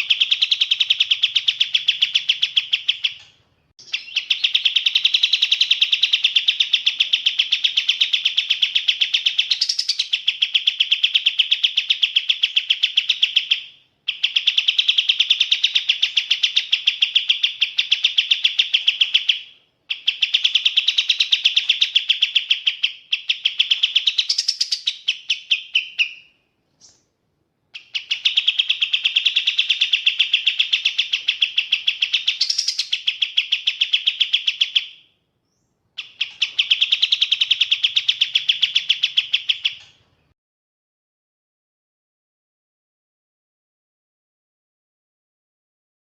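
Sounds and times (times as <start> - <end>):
songbird singing fast trills: 0.0 - 27.1, 27.7 - 40.0.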